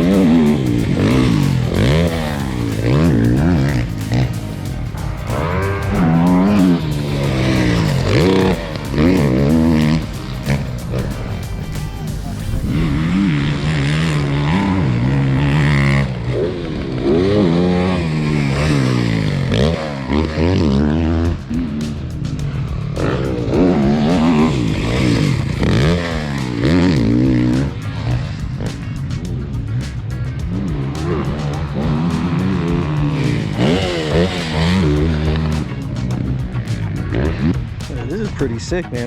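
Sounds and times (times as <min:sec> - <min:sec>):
background music with beat: 0:00.0 - 0:16.4, 0:17.0 - 0:39.0
dirt bike engines revving: 0:00.0 - 0:39.0.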